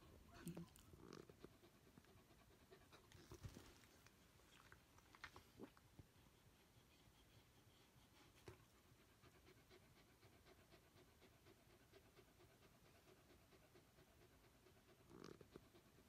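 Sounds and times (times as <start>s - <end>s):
dog panting: 0.0s - 4.1s, 6.0s - 16.0s.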